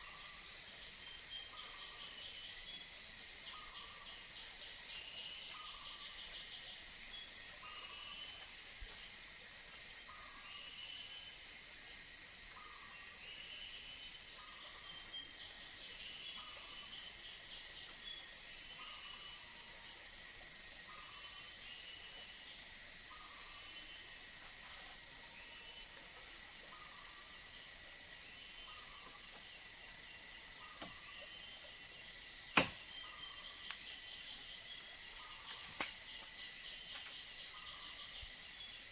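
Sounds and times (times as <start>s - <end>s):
insect chorus drone: 0.0s - 38.9s
short repeating insect call: 0.0s - 38.9s.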